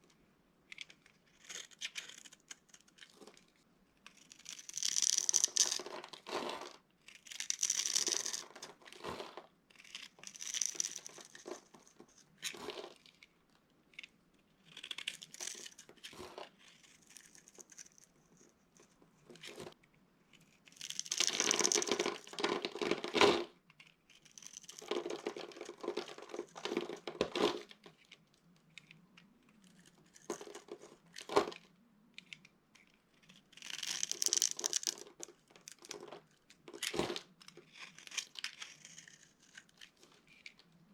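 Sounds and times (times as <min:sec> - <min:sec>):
dry soap crunching by hand: 0:00.8 - 0:14.0, 0:14.6 - 0:18.0, 0:20.4 - 0:23.2, 0:23.8 - 0:28.1, 0:29.4 - 0:31.6, 0:33.1 - 0:40.5.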